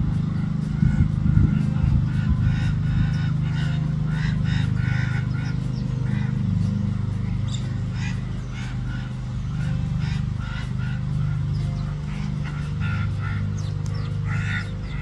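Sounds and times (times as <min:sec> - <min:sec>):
calming background music: 0:00.0 - 0:15.0.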